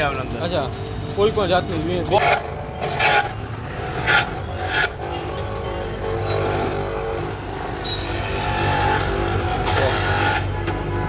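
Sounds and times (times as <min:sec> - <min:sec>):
juicer motor hum: 0:00.0 - 0:11.0.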